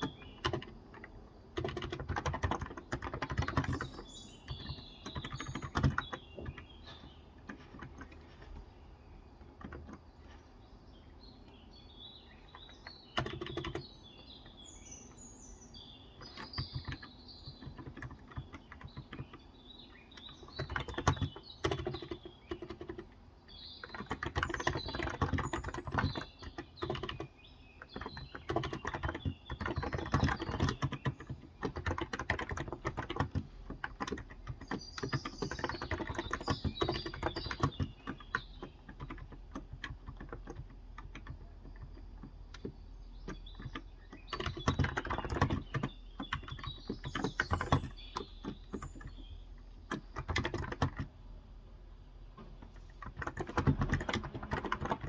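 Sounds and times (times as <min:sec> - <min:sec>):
keyboard typing: 0:00.0 - 0:10.4, 0:12.4 - 0:14.6, 0:16.1 - 0:23.2, 0:23.8 - 0:51.2, 0:52.4 - 0:55.0
small birds chirping: 0:00.0 - 0:55.0.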